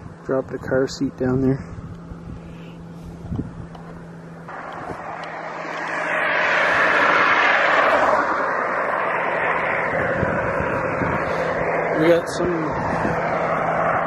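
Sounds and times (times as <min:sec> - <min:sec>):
tractor engine and tyres: 0:00.0 - 0:14.0.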